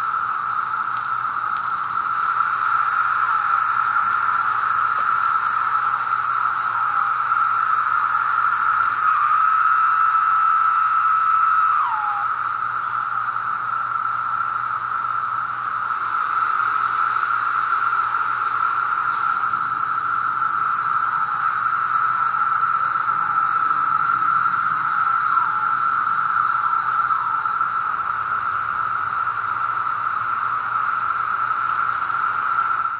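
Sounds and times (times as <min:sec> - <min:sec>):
cicada chorus drone: 0:00.0 - 0:32.9
single cicada calls falling in pitch: 0:00.0 - 0:32.9.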